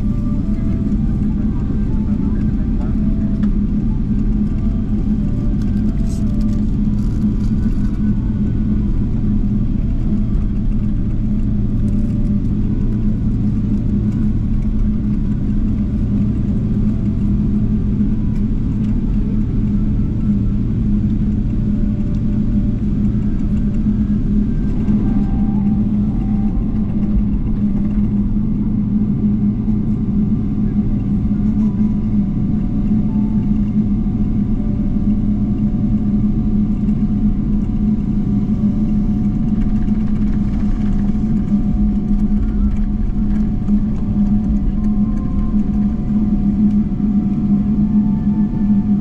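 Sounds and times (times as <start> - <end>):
aircraft cabin engine drone: 0.0 - 49.0.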